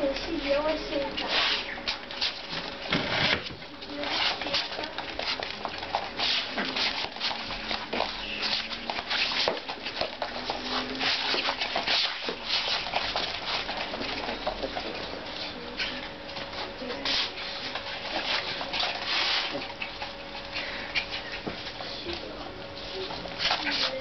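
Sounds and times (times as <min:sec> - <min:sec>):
puppies scuffling: 0:00.0 - 0:24.0
puppies growling: 0:00.2 - 0:24.0.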